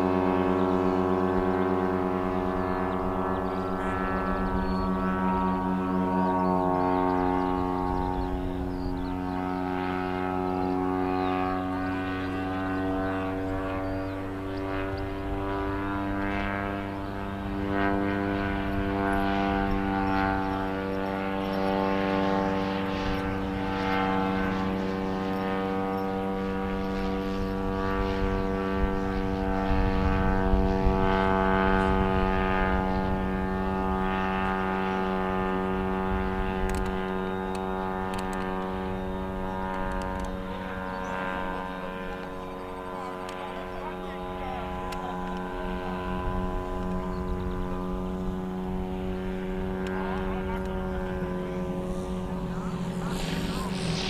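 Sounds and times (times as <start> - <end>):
propeller plane engine running: 0.0 - 54.0.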